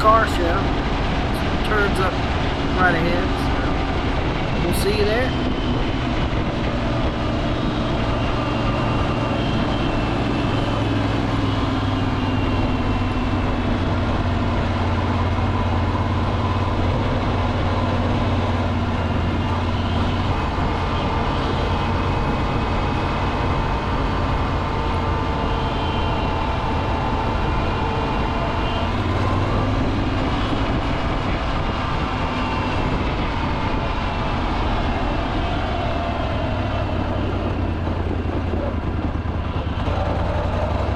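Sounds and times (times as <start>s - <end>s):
engine running: 0.0s - 40.9s
rushing noise: 0.0s - 40.9s.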